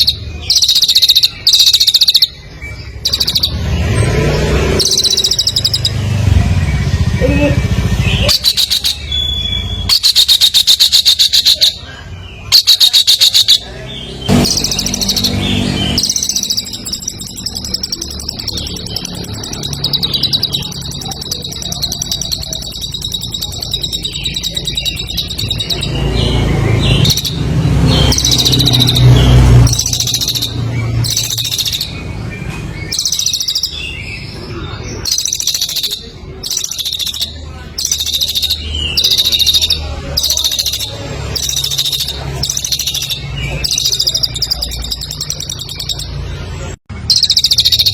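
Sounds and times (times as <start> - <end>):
high buzzing bird trill: 0.0 - 47.9
songbirds chattering: 0.0 - 47.9.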